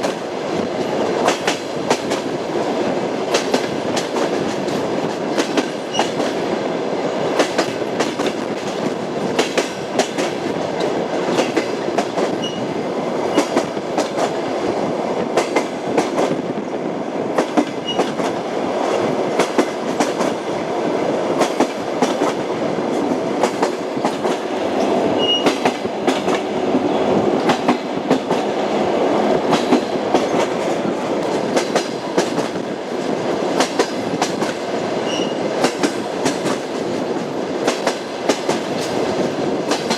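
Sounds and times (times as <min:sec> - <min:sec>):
wheels clacking on rail joints: 0:00.0 - 0:06.4, 0:07.4 - 0:14.4, 0:17.3 - 0:20.4, 0:21.4 - 0:28.6, 0:29.4 - 0:39.9
train wheels rumbling: 0:00.0 - 0:39.9.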